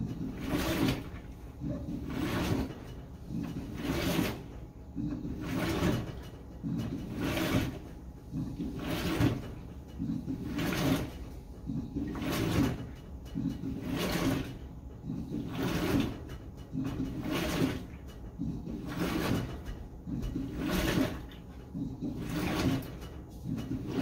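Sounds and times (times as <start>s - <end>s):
washer sloshing water and laundry: 0.0s - 24.0s.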